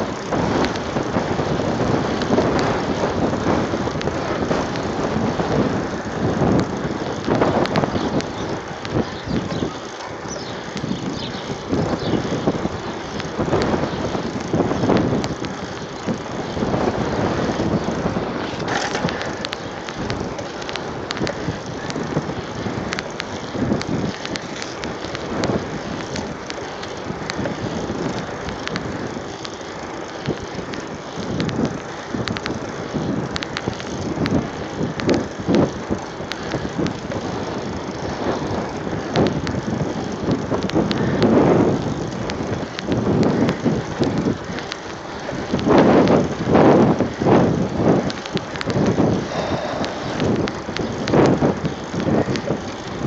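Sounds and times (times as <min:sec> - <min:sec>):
wind on microphone: 0:00.0 - 0:29.4, 0:30.2 - 0:53.0
bike rattling clicks: 0:00.0 - 0:53.0
bike rolling on asphalt: 0:00.0 - 0:53.0.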